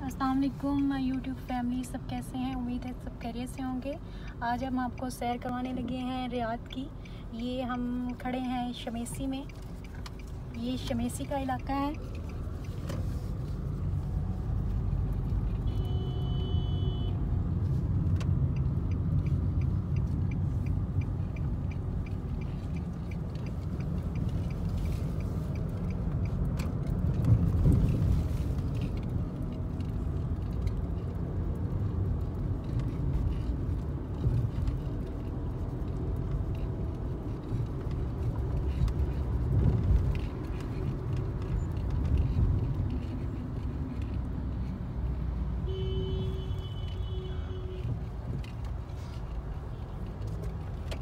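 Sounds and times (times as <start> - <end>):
car engine and tyre rumble: 0.0 - 51.0
light ticking: 0.1 - 15.6, 17.4 - 45.2.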